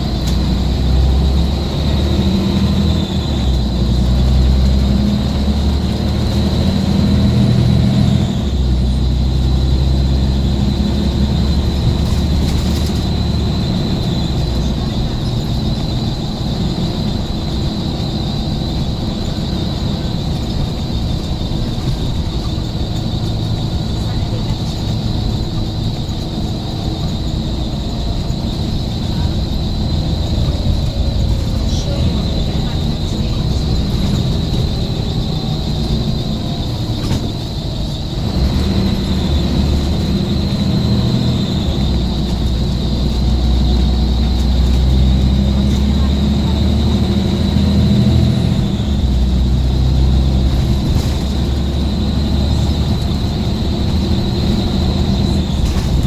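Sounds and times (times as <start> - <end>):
bus engine rumble with whine: 0.0 - 56.0.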